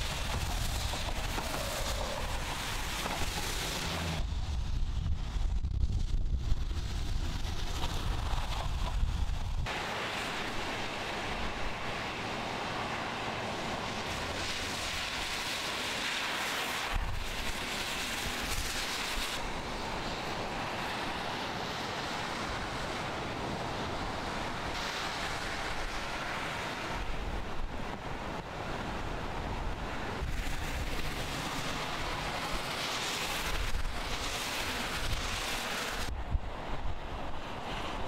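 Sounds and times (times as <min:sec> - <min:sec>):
wind rumbling on microphone: 0:00.0 - 0:38.0.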